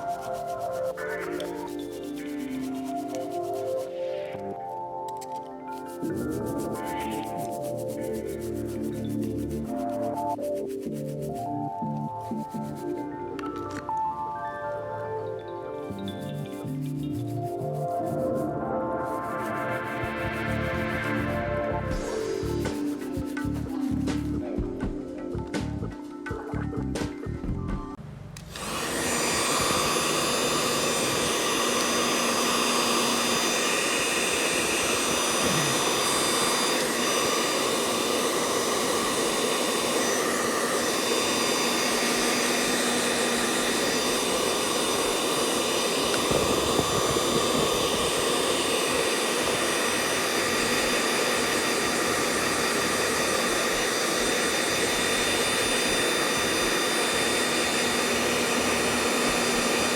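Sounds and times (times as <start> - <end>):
electric motor tool whirring: 0.0 - 14.0, 16.0 - 24.6, 28.4 - 59.9.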